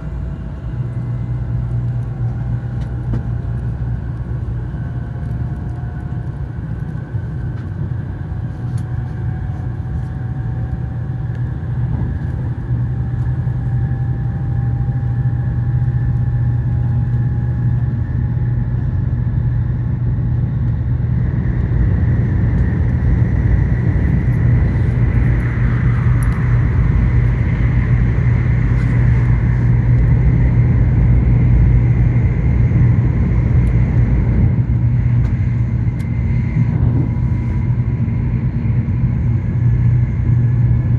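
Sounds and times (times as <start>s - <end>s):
faint rising whine: 0.0s - 40.9s
train low rumble: 0.0s - 40.9s.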